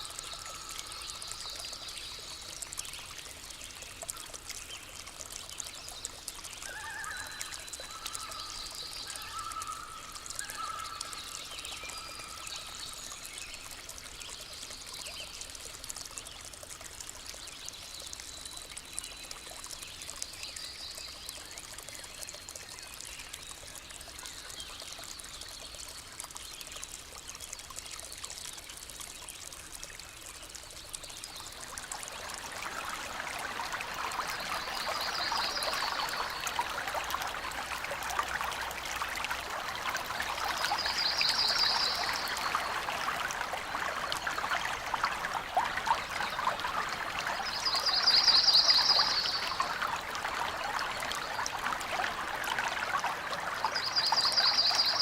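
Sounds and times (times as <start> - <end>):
small stream flowing: 0.0 - 55.0.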